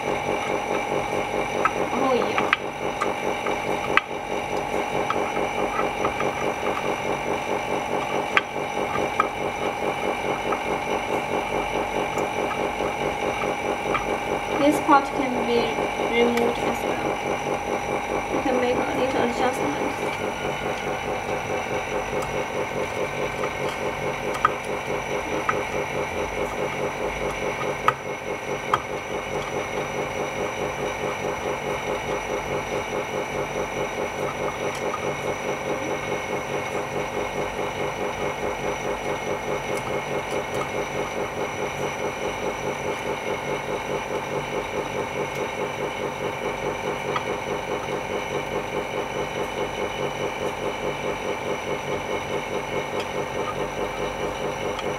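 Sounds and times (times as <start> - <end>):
machine pulsing hum: 0.0 - 54.9.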